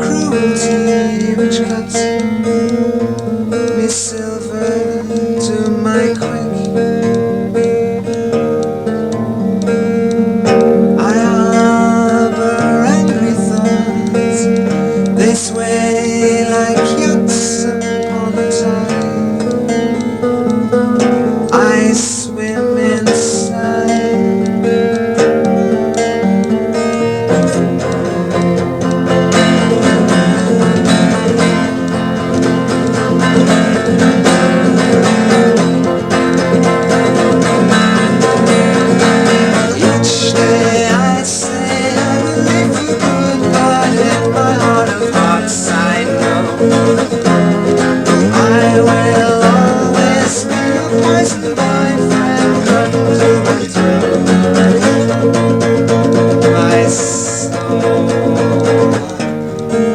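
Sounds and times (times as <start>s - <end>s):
twelve-string guitar strummed and picked: 0.0s - 59.9s.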